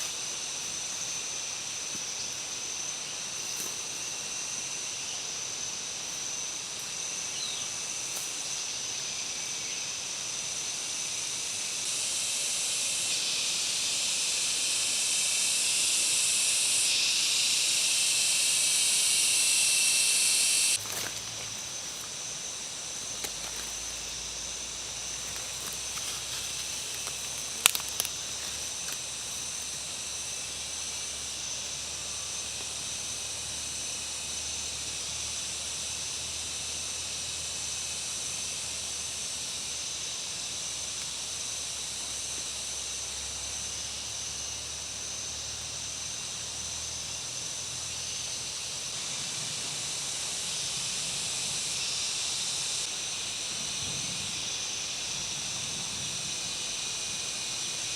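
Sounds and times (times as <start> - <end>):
insect chorus: 0.0 - 57.9.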